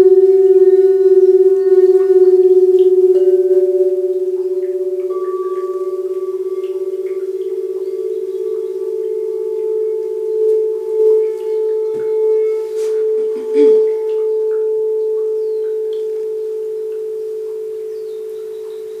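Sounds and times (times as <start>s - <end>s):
crystal singing bowls ringing: 0.0s - 19.0s.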